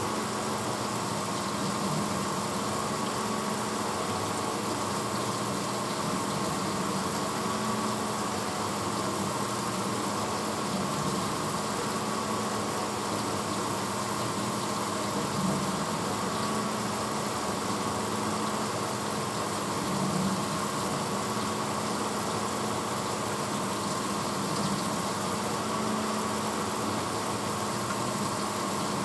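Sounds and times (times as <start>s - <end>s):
dishwasher motor hum: 0.0s - 29.0s
rushing water noise in dishwasher: 0.0s - 29.0s.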